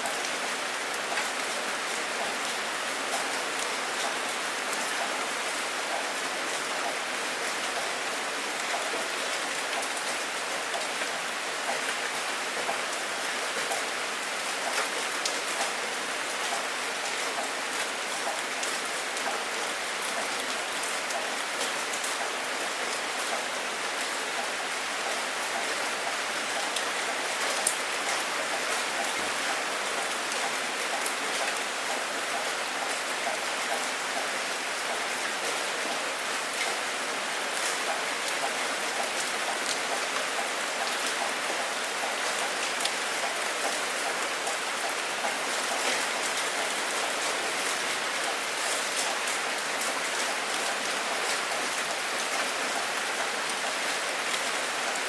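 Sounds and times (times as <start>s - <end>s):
raindrops ticking on a surface: 0.0s - 55.0s
steady rain falling: 0.0s - 55.0s.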